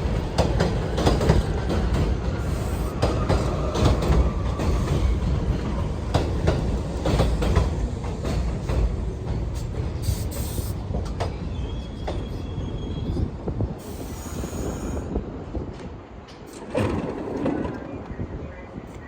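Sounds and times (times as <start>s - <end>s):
subway train rumble and clatter: 0.0s - 19.0s.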